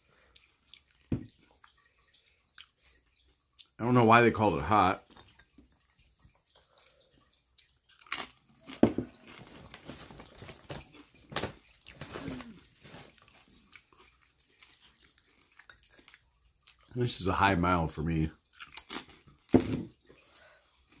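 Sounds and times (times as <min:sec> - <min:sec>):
person chewing crunchy food: 0:00.0 - 0:03.8, 0:05.0 - 0:16.9, 0:18.4 - 0:21.0.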